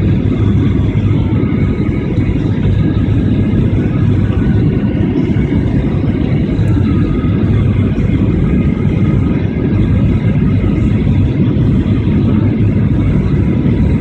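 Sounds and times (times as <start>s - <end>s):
airliner landing rumble: 0.0s - 14.0s.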